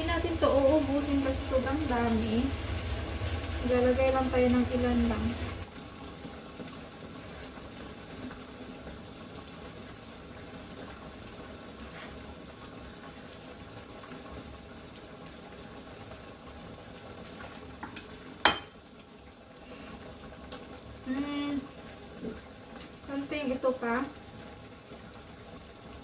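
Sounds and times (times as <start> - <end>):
sauce simmering and bubbling: 0.0 - 26.0.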